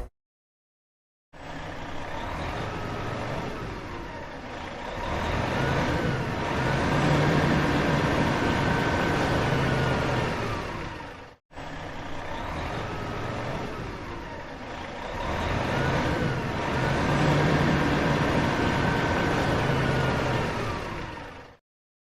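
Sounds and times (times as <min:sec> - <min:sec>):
van engine running: 0:01.4 - 0:21.6.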